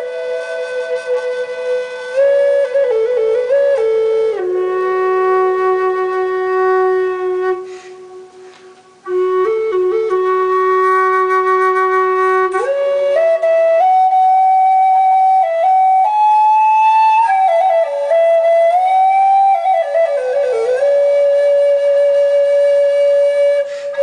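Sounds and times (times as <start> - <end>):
solo flute melody: 0.0 - 24.0.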